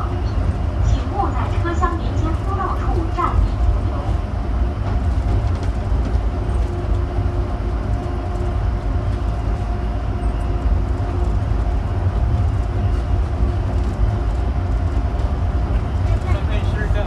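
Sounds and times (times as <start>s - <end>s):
low rumble of train interior: 0.0s - 17.0s.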